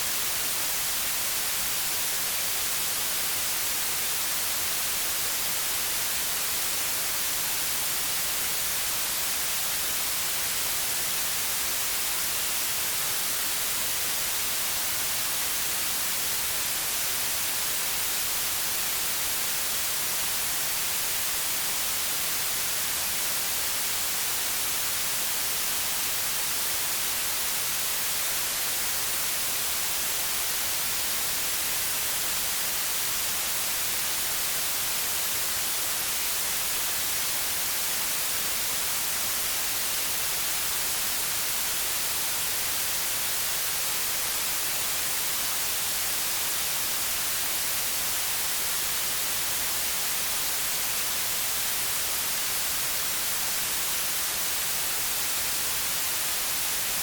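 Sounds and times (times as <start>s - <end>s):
steady white noise: 0.0s - 57.0s.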